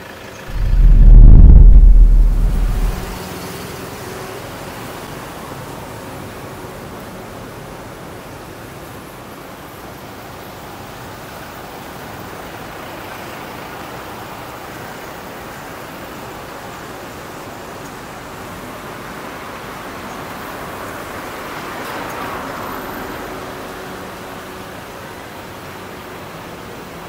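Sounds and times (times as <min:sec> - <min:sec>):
street traffic noise: 0:03.2 - 0:27.0.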